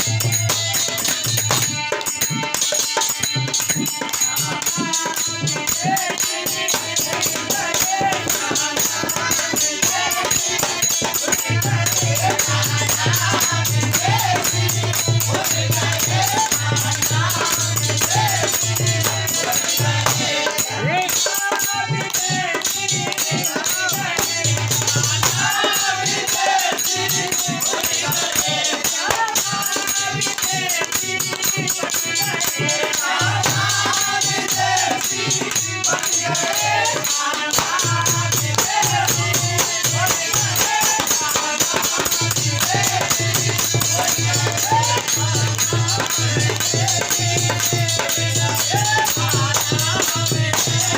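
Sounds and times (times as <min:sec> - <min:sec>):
devotional music: 0:00.0 - 0:50.9
jingling rattling percussion: 0:00.0 - 0:50.9.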